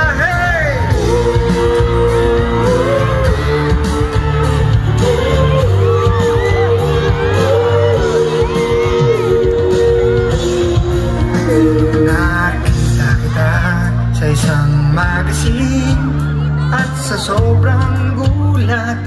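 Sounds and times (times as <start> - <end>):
crowd shouting and whooping: 0.0 - 19.0
live pop-rock band playing: 0.0 - 19.0.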